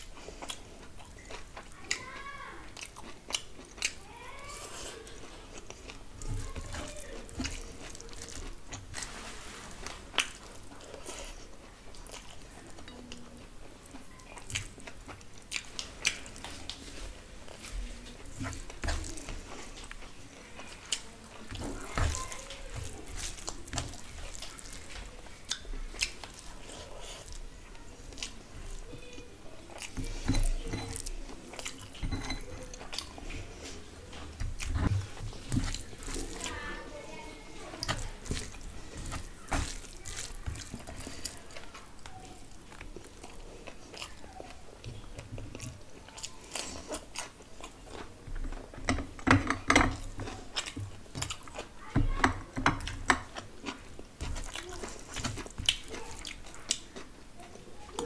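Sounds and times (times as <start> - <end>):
wet chewing and lip smacking: 0.0 - 9.0, 10.1 - 58.0
fingers squishing rice: 0.0 - 49.2.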